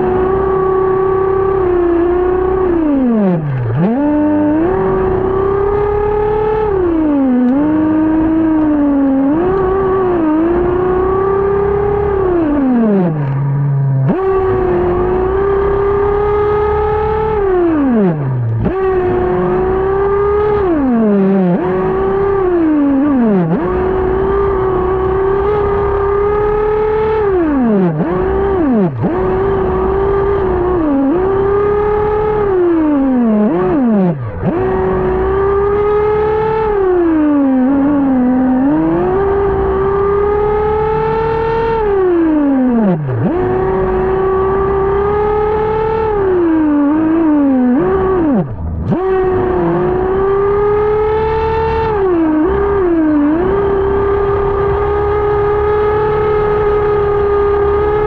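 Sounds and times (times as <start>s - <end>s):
small engine revving with high whine: 0.0s - 58.0s.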